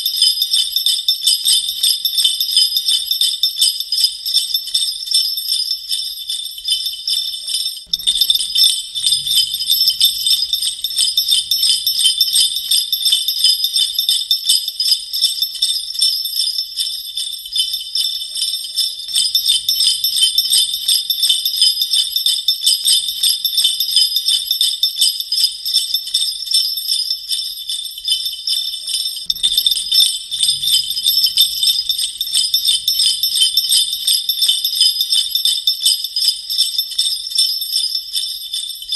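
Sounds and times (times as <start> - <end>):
sleigh bells jingling: 0.0 - 38.9.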